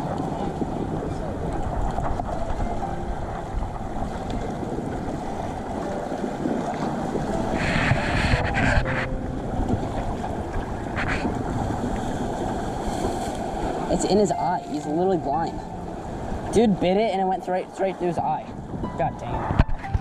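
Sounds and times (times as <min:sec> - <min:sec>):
surf washing: 0:00.0 - 0:20.0
wind buffeting microphone: 0:00.0 - 0:20.0.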